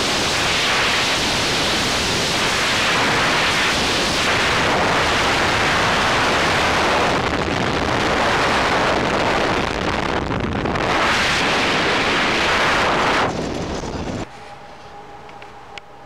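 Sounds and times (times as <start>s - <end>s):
wind rushing on microphone: 0.0s - 14.3s
aircraft engine: 0.0s - 16.0s.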